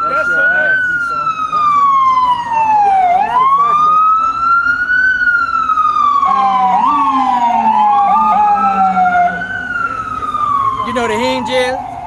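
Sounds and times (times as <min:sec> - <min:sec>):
emergency siren wailing: 0:00.0 - 0:12.0
lower siren tone stepping up: 0:00.0 - 0:12.0.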